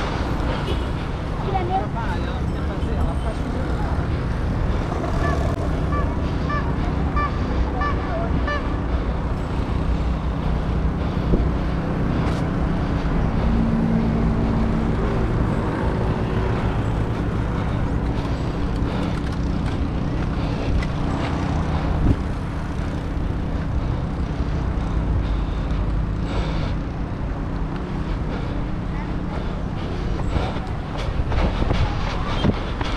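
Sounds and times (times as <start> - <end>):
engine hum: 0.0 - 32.9
street traffic rumble: 0.0 - 32.9.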